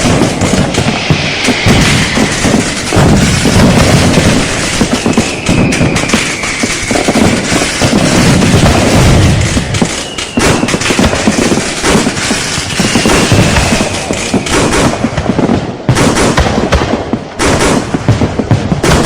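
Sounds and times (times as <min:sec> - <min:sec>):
faint high firework whistle: 0:00.0 - 0:15.5
fireworks cracking and banging: 0:00.0 - 0:19.0.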